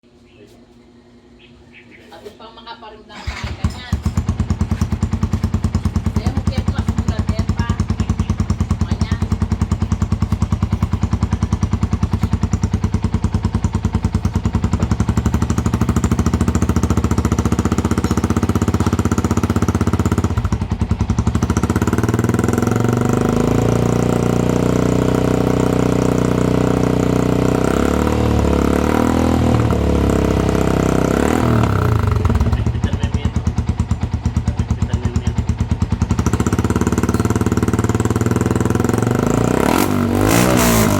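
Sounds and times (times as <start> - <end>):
motorcycle engine revving: 3.2 - 40.9.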